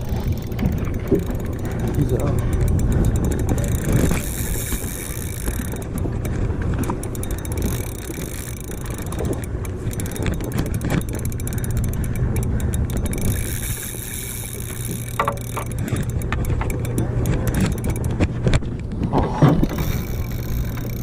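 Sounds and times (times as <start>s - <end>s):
faint clicks: 0.0s - 18.9s, 19.6s - 21.0s
boat machinery humming: 0.0s - 21.0s
water noise: 0.0s - 21.0s
wind: 0.0s - 21.0s.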